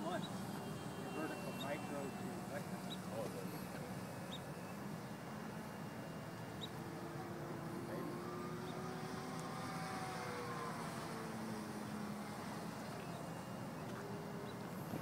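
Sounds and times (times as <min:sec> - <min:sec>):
distant model plane motor whine: 0:00.0 - 0:15.0.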